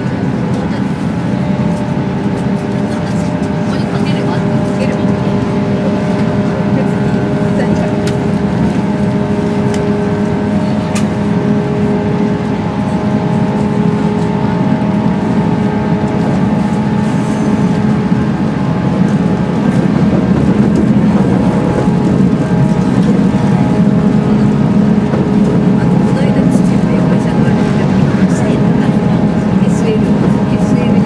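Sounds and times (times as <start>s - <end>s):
constant humming tones: 0.0s - 31.0s
train running noise: 0.0s - 31.0s.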